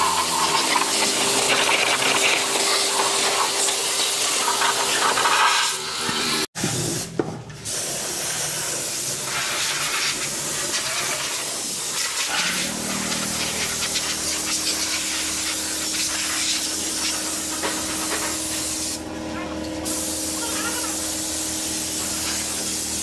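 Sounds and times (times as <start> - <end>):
air spray gun hissing: 0.0 - 19.1, 19.8 - 23.0.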